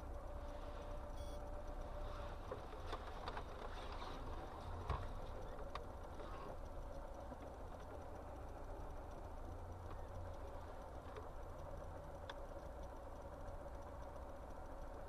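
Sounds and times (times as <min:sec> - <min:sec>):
car engine idling: 0:00.0 - 0:15.0
faint clicks: 0:00.0 - 0:15.0.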